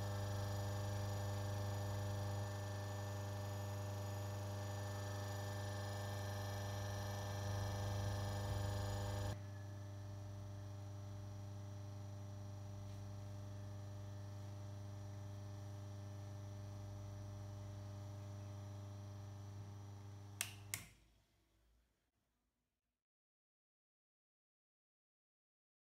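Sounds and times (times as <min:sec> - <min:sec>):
washing machine motor humming: 0:00.0 - 0:20.8.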